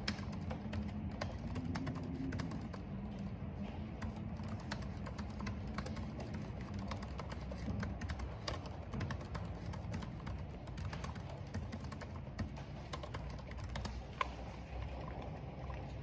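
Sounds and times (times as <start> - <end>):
computer keyboard typing: 0.0 - 14.4.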